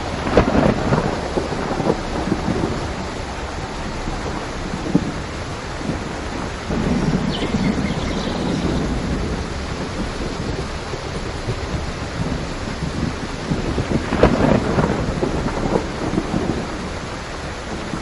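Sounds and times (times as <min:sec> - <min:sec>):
heavy rain: 0:00.0 - 0:18.0
low rumble of thunder: 0:00.0 - 0:18.0.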